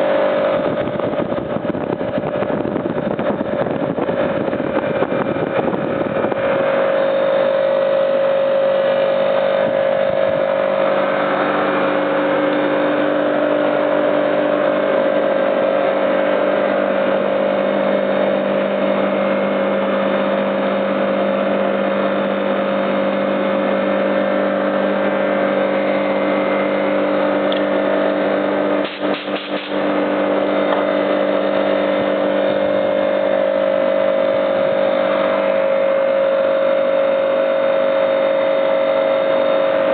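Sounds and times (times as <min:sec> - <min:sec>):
air conditioner compressor hum: 0:00.0 - 0:39.9.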